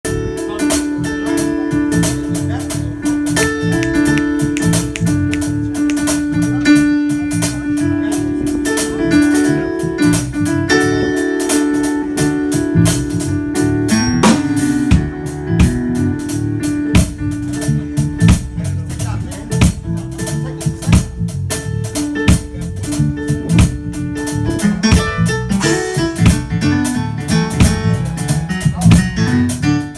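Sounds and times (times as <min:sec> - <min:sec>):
held keyboard chords: 0:00.0 - 0:29.9
steady drum beat: 0:00.7 - 0:29.9.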